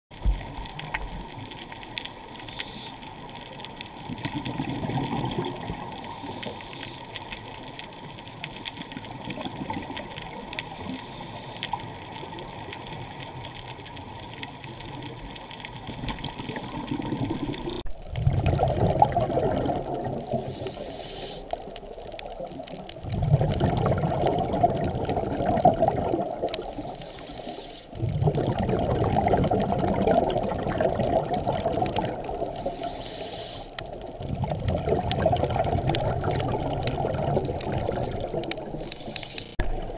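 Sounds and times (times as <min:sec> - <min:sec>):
underwater exhaled bubbles: 0:00.1 - 0:39.9.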